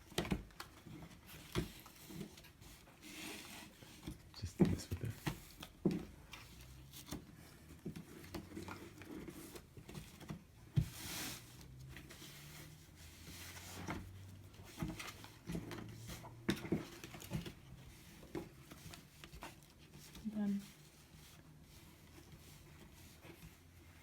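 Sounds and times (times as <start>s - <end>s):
cardboard rustle: 0.0s - 24.0s.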